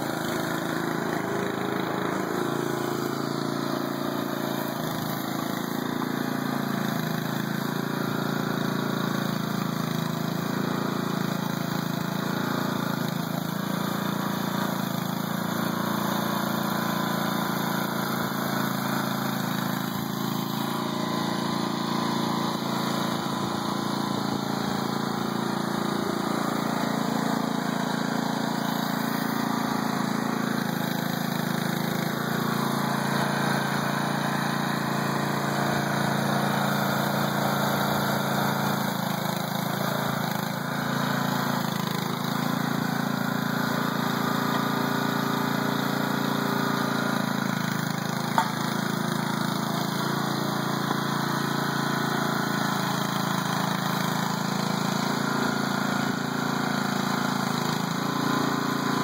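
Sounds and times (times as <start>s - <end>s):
small petrol engine idling: 0.0s - 59.0s.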